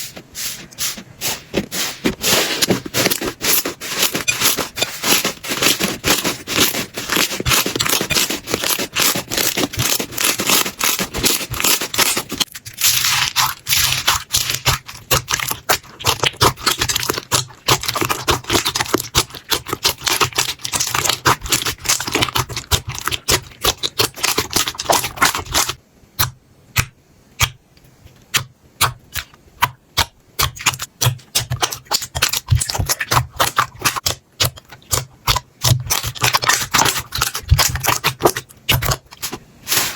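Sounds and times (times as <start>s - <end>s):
slime crackling and popping: 3.0s - 25.8s, 30.0s - 39.3s.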